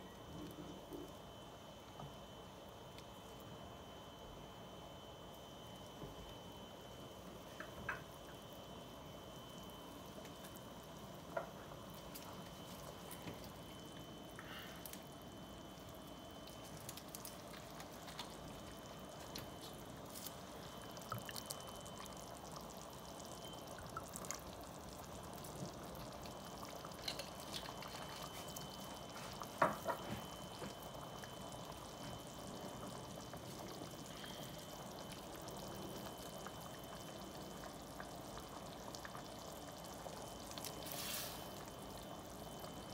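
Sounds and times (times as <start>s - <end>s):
sauce bubbling in a pot: 0.0s - 42.9s.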